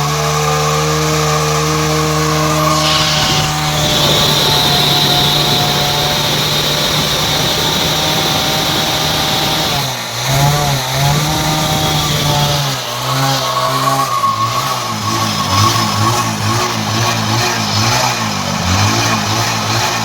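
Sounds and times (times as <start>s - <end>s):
motorcycle engine running and revving: 0.0s - 20.0s.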